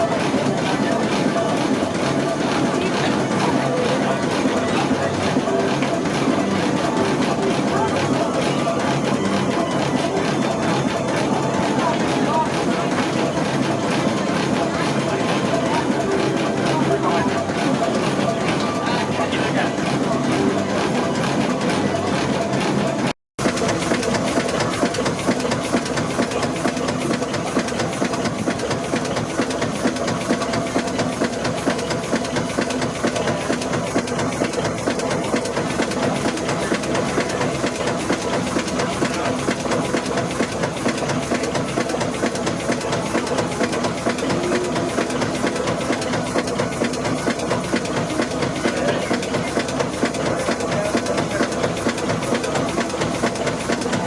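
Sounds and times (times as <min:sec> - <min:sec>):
steam engine fast beat: 0:00.0 - 0:54.0.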